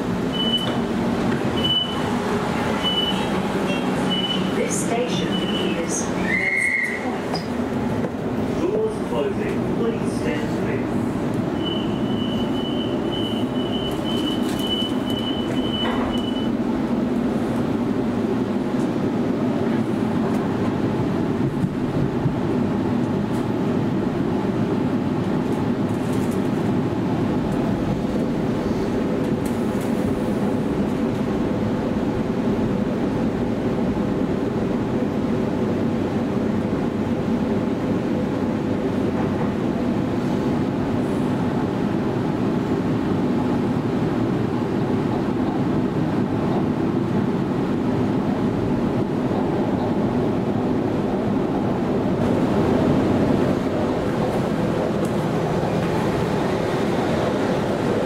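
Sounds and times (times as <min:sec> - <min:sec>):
train cabin rumble: 0:00.0 - 0:58.0.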